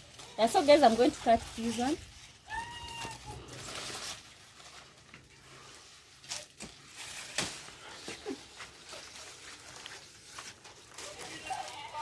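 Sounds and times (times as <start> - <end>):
dry leaves rustling: 0.0 - 12.0.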